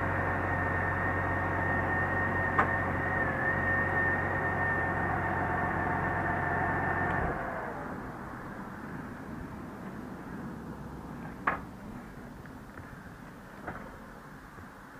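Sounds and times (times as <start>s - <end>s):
motorcycle engine whine: 0.0s - 14.9s.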